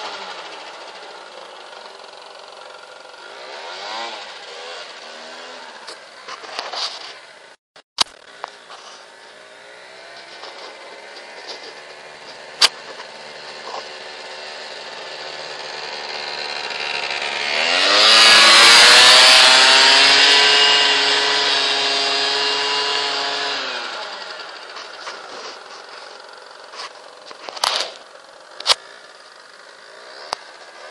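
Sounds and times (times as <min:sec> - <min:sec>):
scooter engine passing by: 0:00.0 - 0:07.4, 0:08.5 - 0:30.9.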